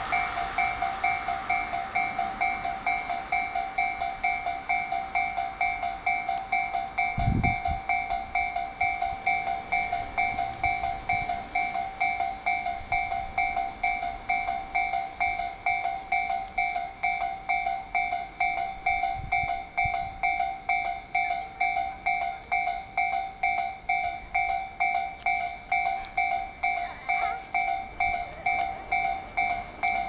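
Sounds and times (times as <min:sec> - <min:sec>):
level crossing bell ringing: 0:00.0 - 0:30.0.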